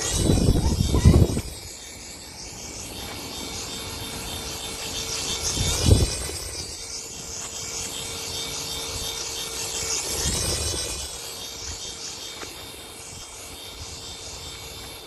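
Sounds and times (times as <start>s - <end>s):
toy drone buzzing: 0.0s - 15.0s.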